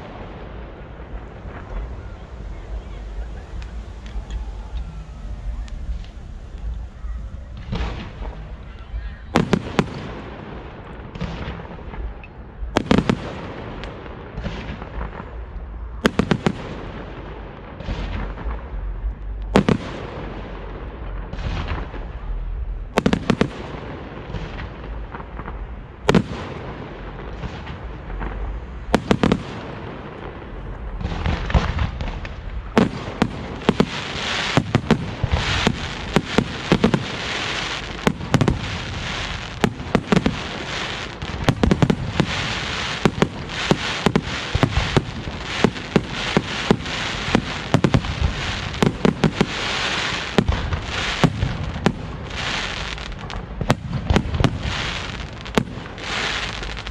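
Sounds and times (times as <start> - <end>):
dense firework crackling: 0.0 - 56.9.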